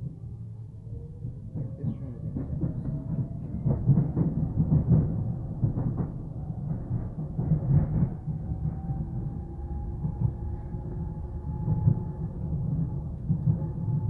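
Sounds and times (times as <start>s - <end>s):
train wheels rumbling and clattering: 0.0s - 14.0s.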